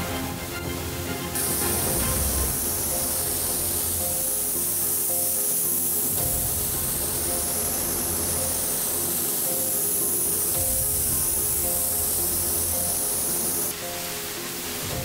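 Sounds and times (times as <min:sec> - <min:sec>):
background music: 0:00.0 - 0:15.0
spray gun hissing: 0:01.4 - 0:15.0.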